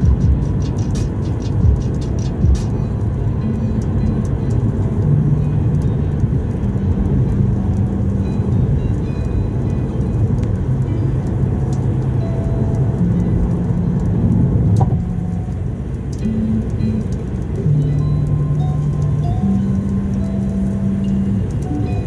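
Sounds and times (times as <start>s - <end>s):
music with low bass notes: 0.0s - 22.0s
tyre and engine rumble: 0.0s - 22.0s.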